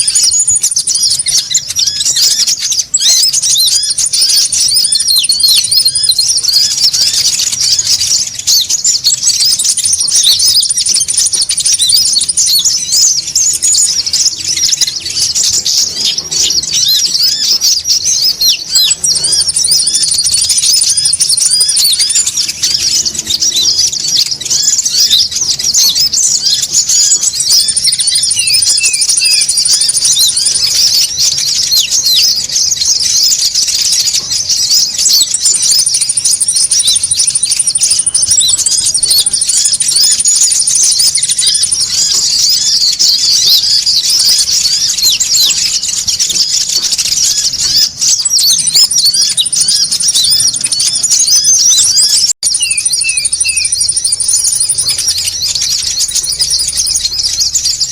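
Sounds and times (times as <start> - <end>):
birds chattering: 0.0 - 57.9.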